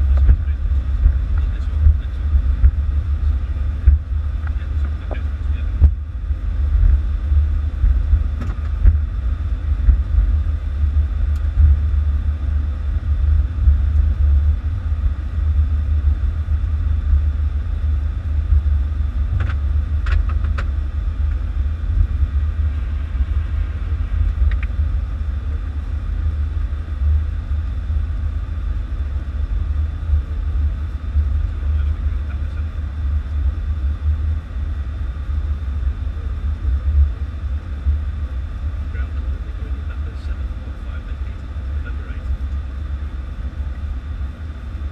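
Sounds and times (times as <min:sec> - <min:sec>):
airliner rolling low rumble: 0:00.0 - 0:44.9.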